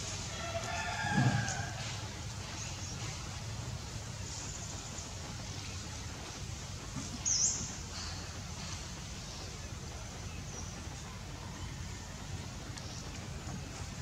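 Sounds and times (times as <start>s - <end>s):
low rumble background noise: 0.0s - 14.0s.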